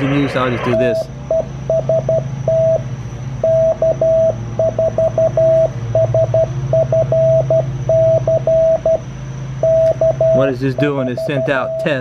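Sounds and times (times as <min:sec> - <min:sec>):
morse code tone: 0:00.0 - 0:02.8, 0:03.4 - 0:09.0, 0:09.6 - 0:12.0
steady low hum: 0:00.0 - 0:12.0.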